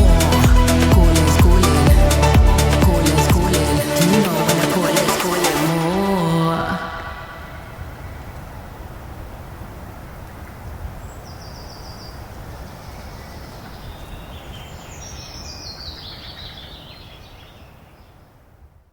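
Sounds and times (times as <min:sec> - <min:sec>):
outdoor ambient noise: 0:00.0 - 0:18.9.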